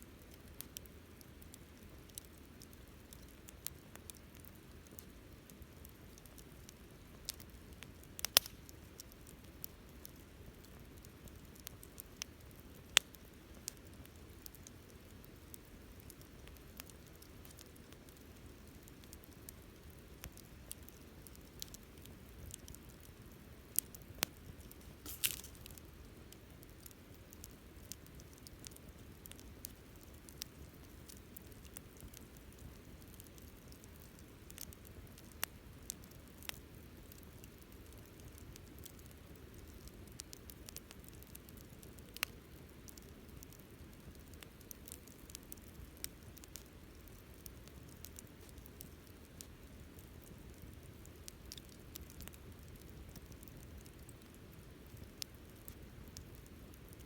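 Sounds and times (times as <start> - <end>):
campfire crackling: 0.1 - 57.0
fire popping: 0.2 - 57.0.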